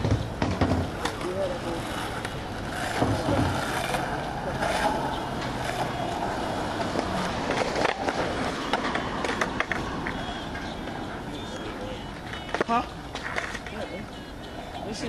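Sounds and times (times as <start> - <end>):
skateboard clacking on bar: 0.0 - 14.2
skateboard wheels rolling on asphalt: 0.0 - 15.0.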